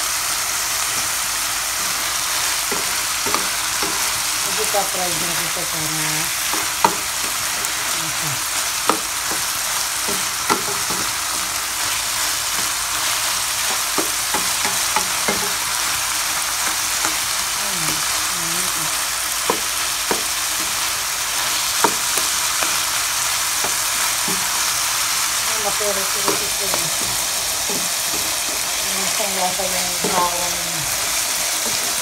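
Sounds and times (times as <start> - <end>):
meat sizzling in hot oil: 0.0 - 32.0
spatula tapping and scraping: 2.6 - 8.0, 8.8 - 18.2, 18.9 - 32.0.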